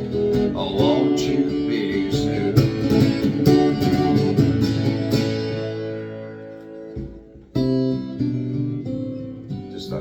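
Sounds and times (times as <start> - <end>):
guitar strumming: 0.0 - 10.0.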